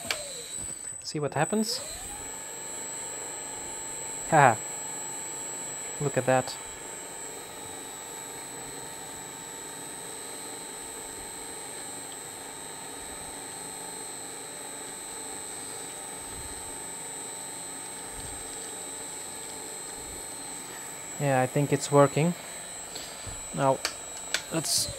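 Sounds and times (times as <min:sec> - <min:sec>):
paper shredder motor whining: 0:00.0 - 0:24.9.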